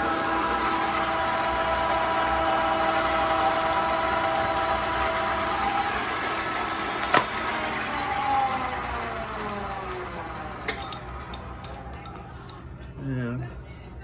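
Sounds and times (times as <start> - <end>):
metal lathe humming and whining: 0.0 - 12.7.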